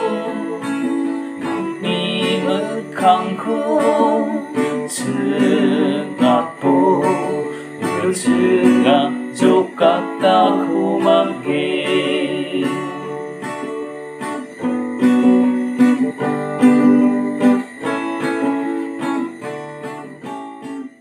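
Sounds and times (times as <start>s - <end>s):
guitar chords: 0.0s - 21.0s.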